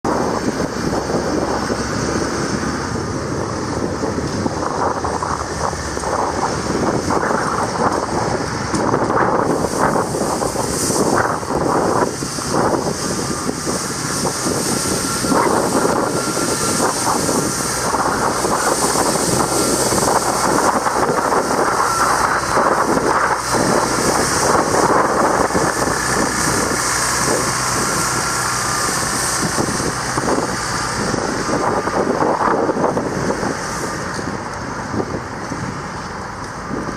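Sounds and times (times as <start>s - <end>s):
blizzard wind rushing: 0.0s - 36.9s.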